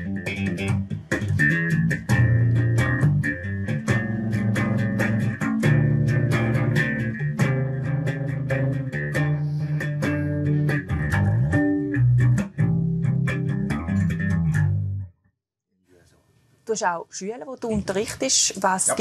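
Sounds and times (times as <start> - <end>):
slap bass guitar: 0.0 - 15.2.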